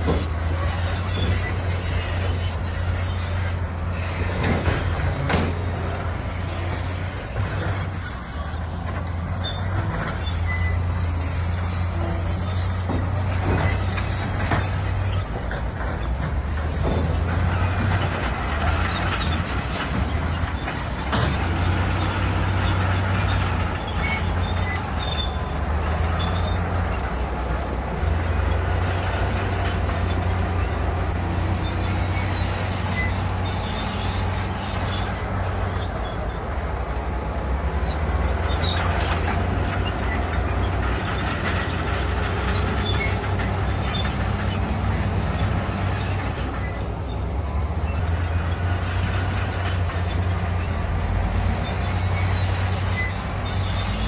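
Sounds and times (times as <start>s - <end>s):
bulldozer diesel engine droning: 0.0s - 54.0s
steel tracks clattering: 0.0s - 54.0s.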